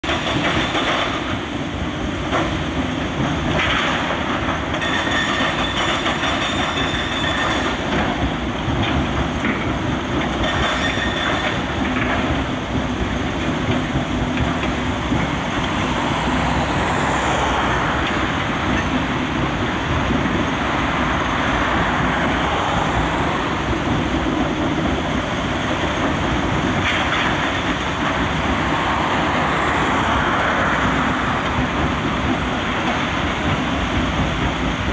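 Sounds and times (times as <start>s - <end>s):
excavator engine and hydraulics: 0.0s - 34.9s.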